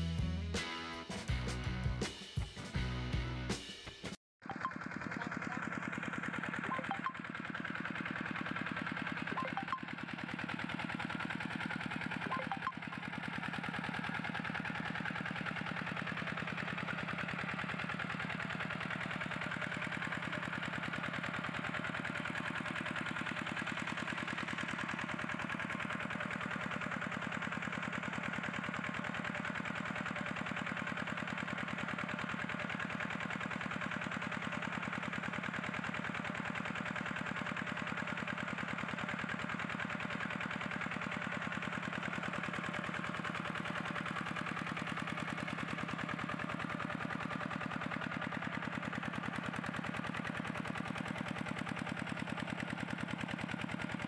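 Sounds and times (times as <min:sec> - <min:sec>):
small water pump engine running: 0:04.4 - 0:54.0.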